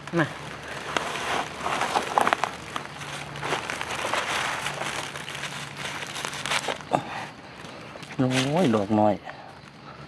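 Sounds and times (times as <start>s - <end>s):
dry leaves rustling: 0.0s - 9.2s.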